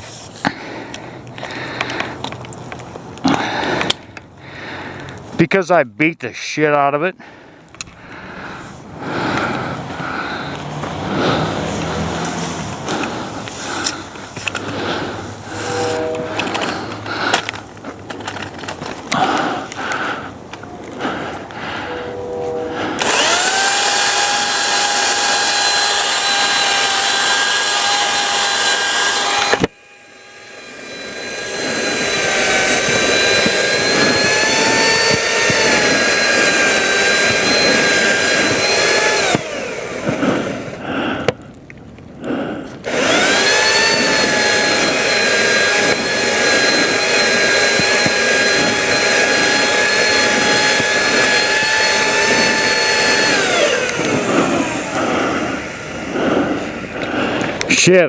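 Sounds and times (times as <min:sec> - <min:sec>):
chainsaw cutting limbs: 0:00.0 - 0:05.6, 0:07.2 - 0:58.0.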